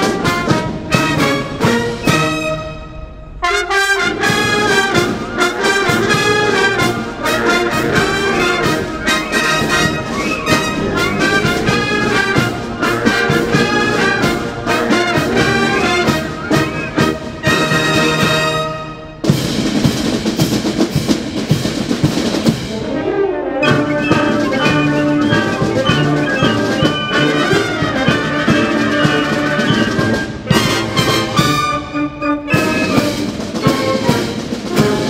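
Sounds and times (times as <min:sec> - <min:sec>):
marching brass band: 0:00.0 - 0:35.0.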